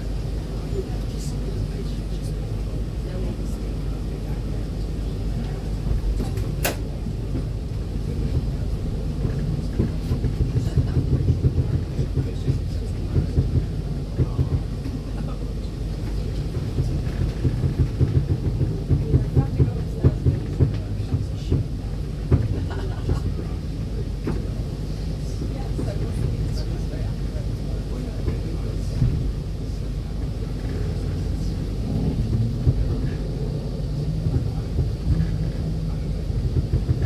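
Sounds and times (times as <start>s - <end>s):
tram wheels rumbling on rails: 0.0s - 37.0s.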